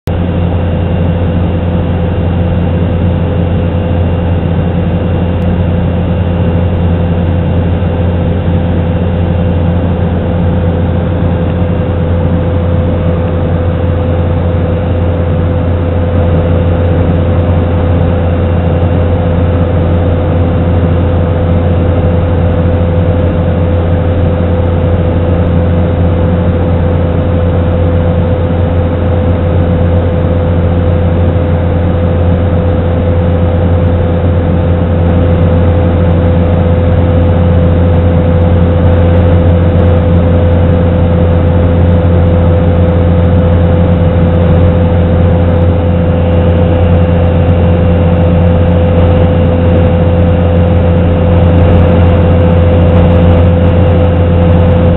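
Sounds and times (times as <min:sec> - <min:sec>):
plane engine drone in cabin: 0:00.0 - 0:54.9.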